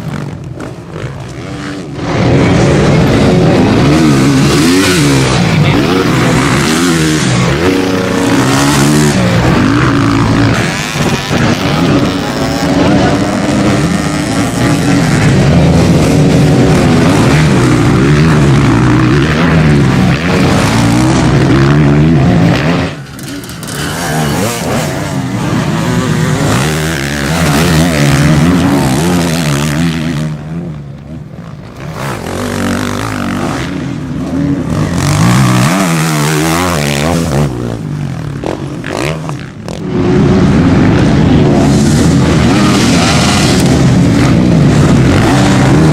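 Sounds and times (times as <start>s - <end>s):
motocross bike engines revving: 0.0s - 45.9s.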